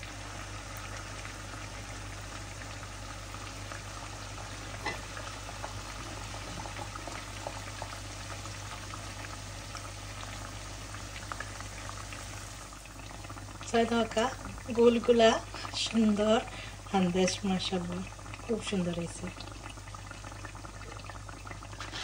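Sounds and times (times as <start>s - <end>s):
hot oil sizzling and bubbling: 0.0s - 22.0s.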